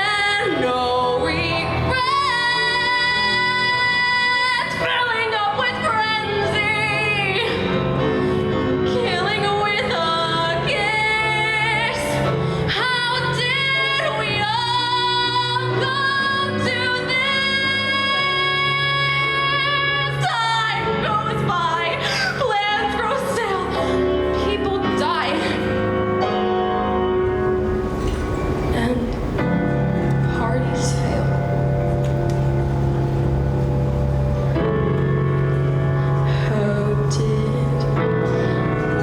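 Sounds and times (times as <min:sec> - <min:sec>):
woman singing with vibrato: 0:00.0 - 0:07.8, 0:08.8 - 0:26.3, 0:28.6 - 0:32.1, 0:36.0 - 0:39.0
instrumental accompaniment: 0:00.0 - 0:39.0.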